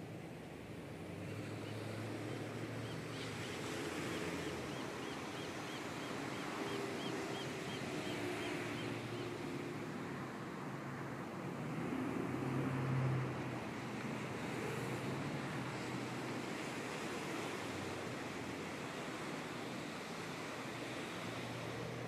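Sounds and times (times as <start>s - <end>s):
distant road traffic hum: 0.0s - 22.0s
waves breaking on sandy beach: 0.0s - 22.0s.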